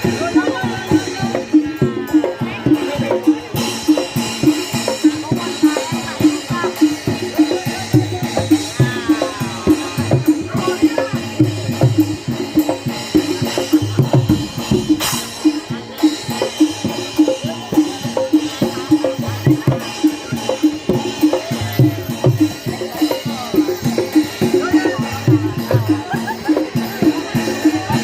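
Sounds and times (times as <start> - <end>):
hand drums beating fast rhythm: 0.0 - 28.0.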